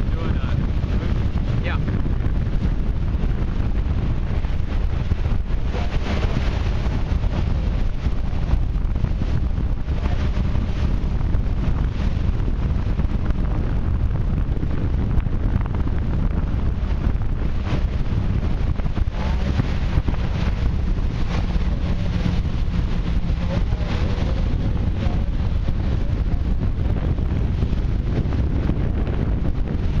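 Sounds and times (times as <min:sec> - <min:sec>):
motorboat engine drone: 0:00.0 - 0:30.0
water rushing and splashing: 0:00.0 - 0:30.0
wind buffeting microphone: 0:00.0 - 0:30.0.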